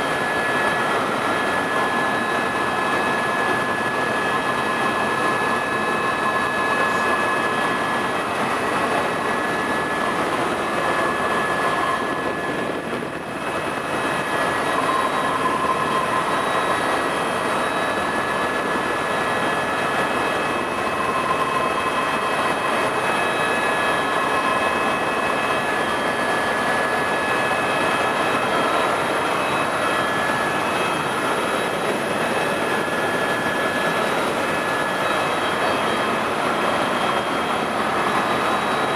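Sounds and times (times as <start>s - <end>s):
helicopter rotors rushing: 0.0s - 38.9s
high turbine whines: 0.0s - 38.9s.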